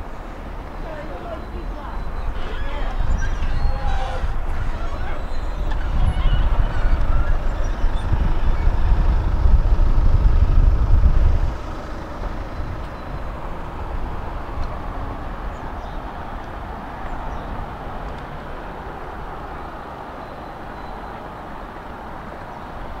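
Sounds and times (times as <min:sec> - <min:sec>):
tram rumbling: 0:00.0 - 0:23.0.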